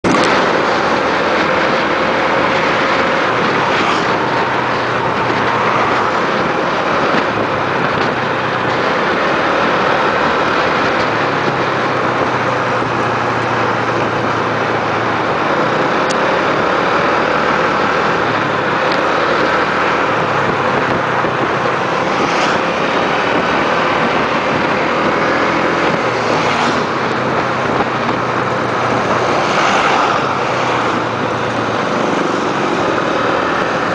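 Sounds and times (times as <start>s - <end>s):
rushing wind noise: 0.0s - 33.9s.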